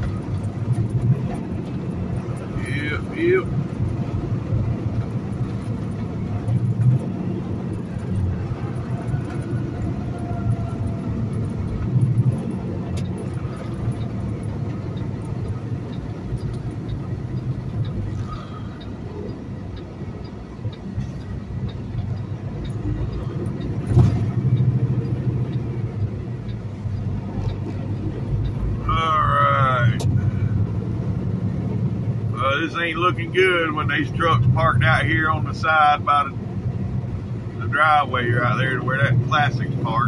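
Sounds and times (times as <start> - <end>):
road noise: 0.0 - 40.0
truck diesel engine drone: 0.0 - 40.0.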